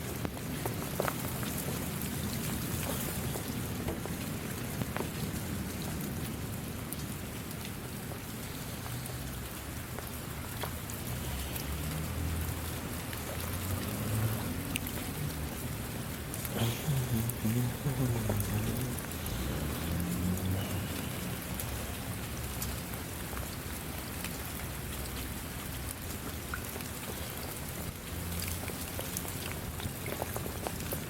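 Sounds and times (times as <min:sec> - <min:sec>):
raindrops ticking on a surface: 0:00.0 - 0:31.0
steady rain falling: 0:00.0 - 0:31.0.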